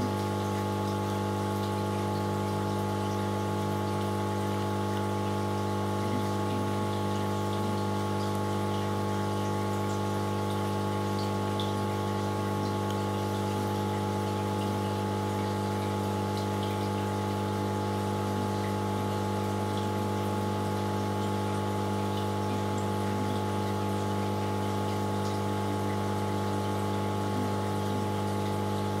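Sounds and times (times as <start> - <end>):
aquarium pump humming: 0.0 - 29.0
faint water bubbling: 0.0 - 29.0.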